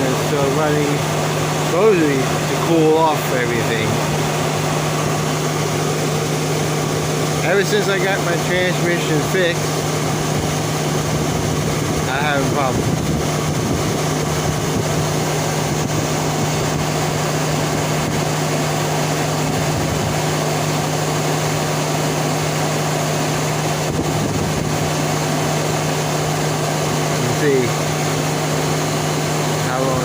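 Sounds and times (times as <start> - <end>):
radiator cooling fans whooshing: 0.0 - 30.0.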